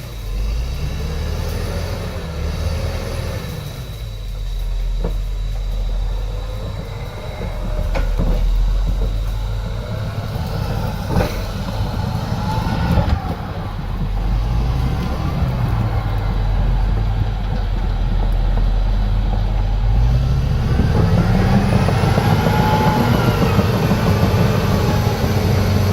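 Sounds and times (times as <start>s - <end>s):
diesel machine running: 0.0s - 25.9s.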